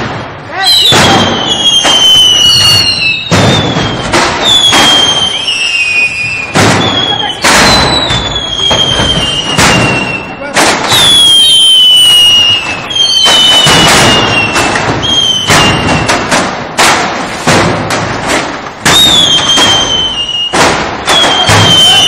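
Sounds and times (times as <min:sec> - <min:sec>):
firecrackers banging: 0:00.0 - 0:22.0
whistling fireworks: 0:00.0 - 0:22.0.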